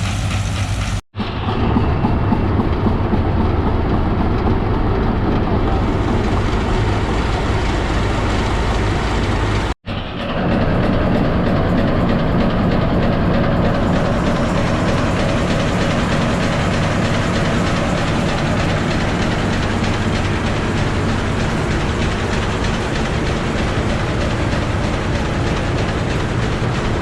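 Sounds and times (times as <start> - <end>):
machinery rapid mechanical clatter: 0.0 - 27.0.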